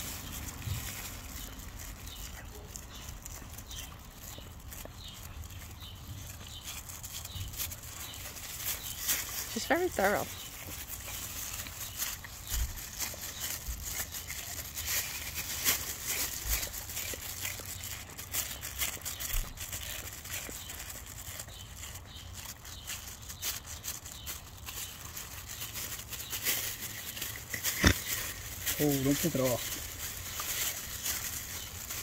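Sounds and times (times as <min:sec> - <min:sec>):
plastic sheet crinkling: 0:00.0 - 0:32.0.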